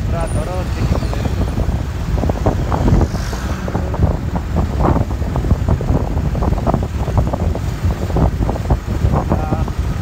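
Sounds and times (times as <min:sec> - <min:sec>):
motorcycle running: 0:00.0 - 0:10.0
wind buffeting microphone: 0:00.0 - 0:10.0.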